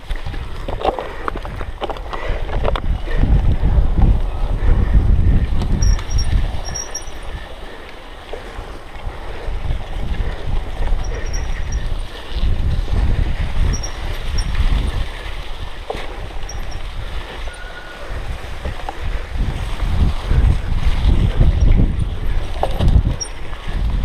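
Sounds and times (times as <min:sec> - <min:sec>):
bike rattling over rough ground: 0:00.0 - 0:24.0
wind buffeting microphone: 0:00.0 - 0:24.0.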